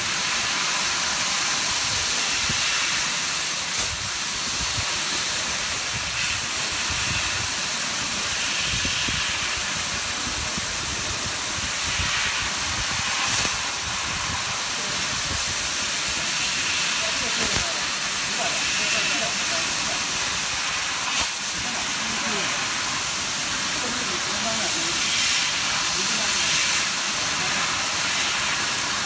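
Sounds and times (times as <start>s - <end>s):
laser cutter gas jet hissing: 0.0s - 29.0s.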